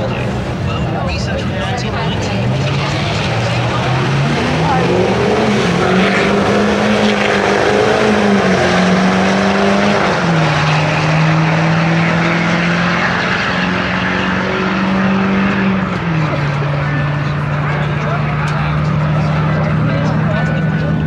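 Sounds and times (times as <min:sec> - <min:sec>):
truck engines at full throttle: 0:00.0 - 0:21.0.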